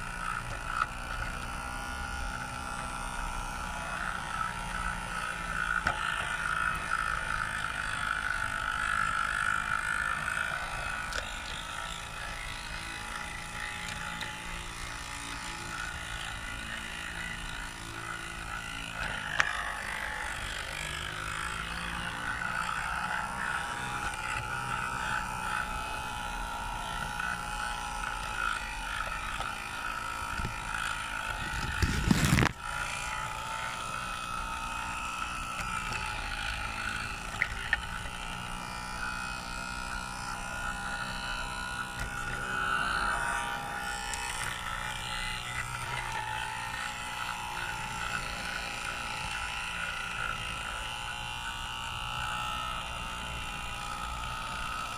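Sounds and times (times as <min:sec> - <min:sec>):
model locomotive whirring: 0:00.0 - 0:54.9.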